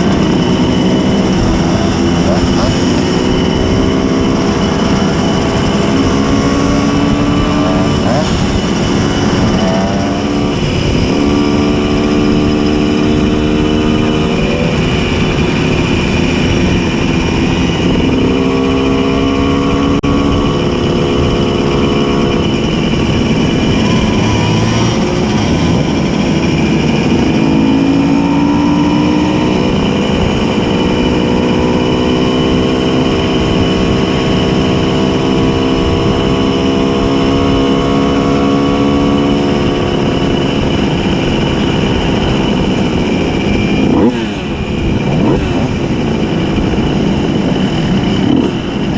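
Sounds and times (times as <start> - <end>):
two-stroke moped engine: 0.0 - 48.9
wind rush: 0.0 - 48.9.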